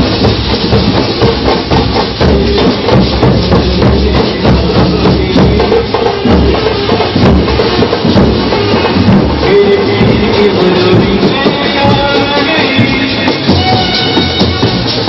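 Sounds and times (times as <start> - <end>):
jingling tambourine-like percussion: 0.0 - 15.0
large drum beaten: 0.0 - 15.0
procession band music: 0.0 - 15.0.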